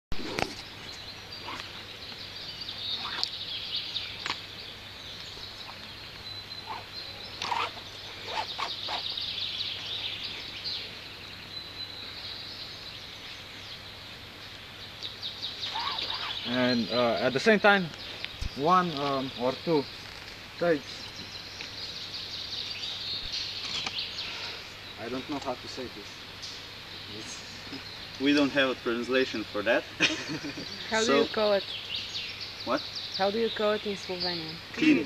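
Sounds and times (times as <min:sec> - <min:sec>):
birds chirping: 0:00.1 - 0:35.0.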